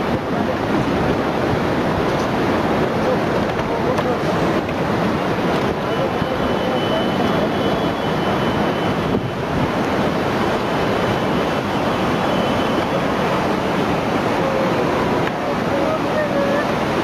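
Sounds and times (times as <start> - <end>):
wind buffeting microphone: 0.0 - 6.5, 7.3 - 17.0
rushing water: 0.0 - 17.0.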